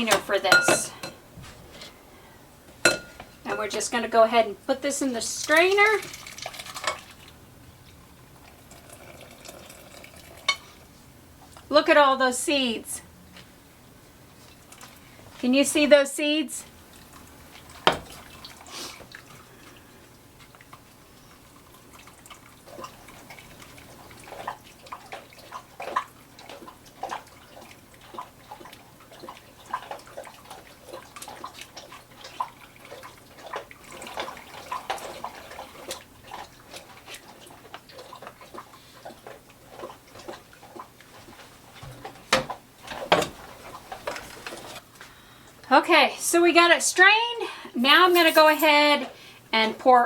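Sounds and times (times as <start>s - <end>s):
juice trickling and dripping: 2.0s - 11.7s, 14.1s - 15.4s, 16.7s - 45.8s.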